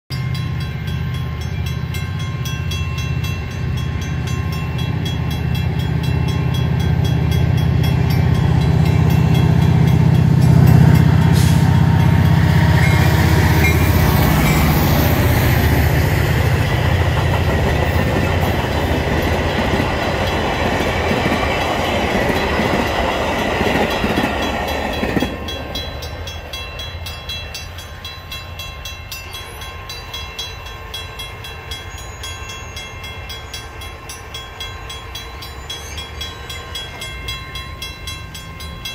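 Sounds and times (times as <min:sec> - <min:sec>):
crossing signal bell: 0:00.1 - 0:38.9
diesel locomotive engine: 0:00.1 - 0:38.9
train wheels rattling on rails: 0:00.2 - 0:38.9.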